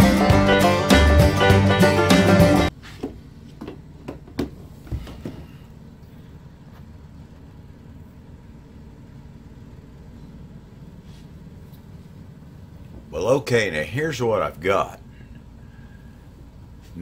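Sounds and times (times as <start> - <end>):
low room hum: 2.7 - 17.0.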